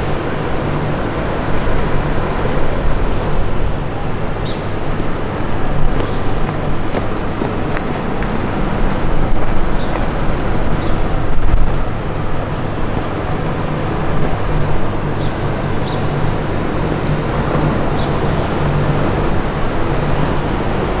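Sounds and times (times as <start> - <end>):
constant low hum: 0.0 - 21.0
traffic rumble: 0.0 - 21.0.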